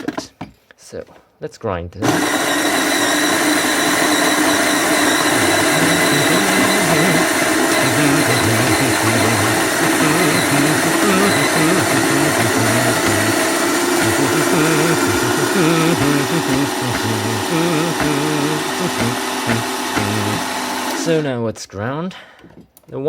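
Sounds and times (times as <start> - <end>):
coffee grinder running: 2.0 - 21.2.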